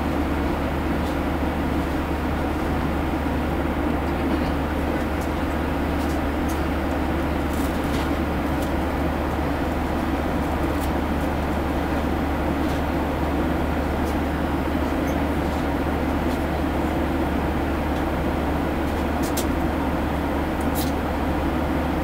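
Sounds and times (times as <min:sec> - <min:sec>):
airplane cabin engine drone: 0:00.0 - 0:22.0.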